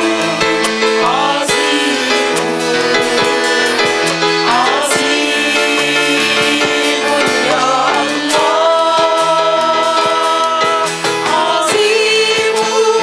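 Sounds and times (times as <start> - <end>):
accordion: 0.0 - 13.0
drums: 0.0 - 13.0
electric guitar: 0.0 - 13.0
keyboard: 0.0 - 13.0
women singing together: 0.0 - 13.0.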